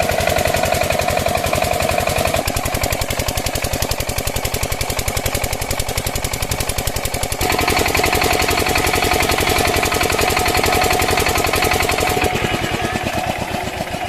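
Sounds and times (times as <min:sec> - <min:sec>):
diesel water pump engine running: 0:00.0 - 0:14.0.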